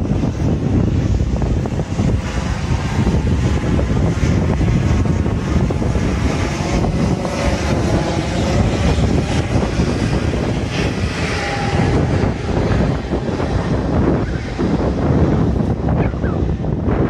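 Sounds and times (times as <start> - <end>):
jet engines running: 0.0 - 17.0
wind buffeting microphone: 0.0 - 17.0.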